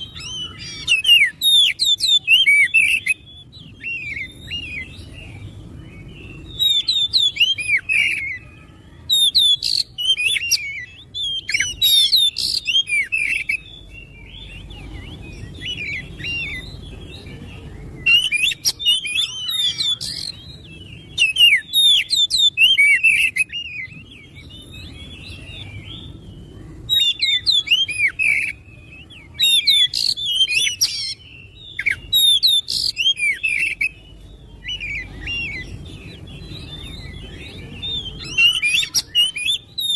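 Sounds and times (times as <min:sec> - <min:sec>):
songbird whistling and chattering: 0:00.0 - 0:39.9.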